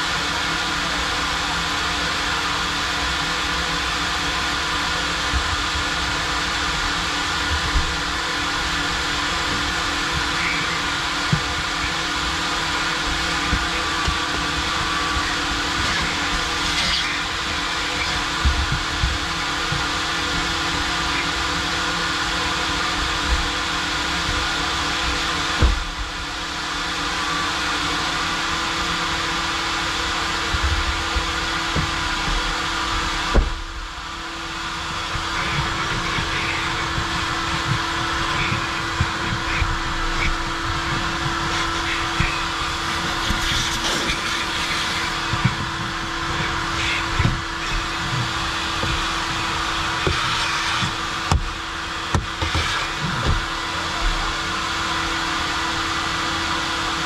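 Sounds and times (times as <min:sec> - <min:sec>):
vacuum humming: 0:00.0 - 0:57.0.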